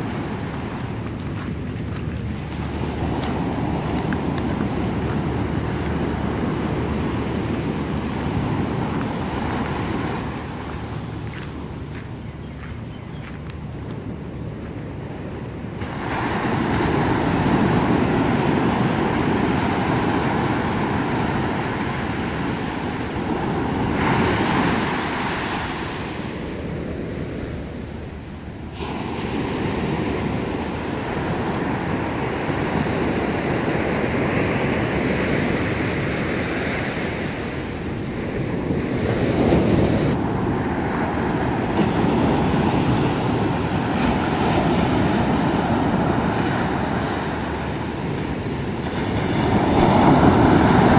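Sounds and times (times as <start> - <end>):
waves breaking on beach: 0.0 - 50.9.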